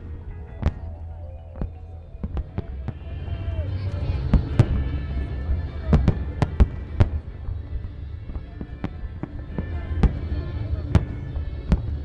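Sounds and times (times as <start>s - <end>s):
music: 0.0s - 12.0s.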